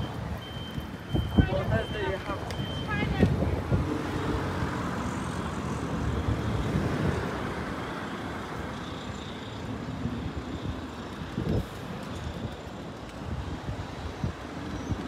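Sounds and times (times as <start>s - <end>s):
bus engine passing: 0.0s - 14.6s
street traffic: 0.0s - 15.0s.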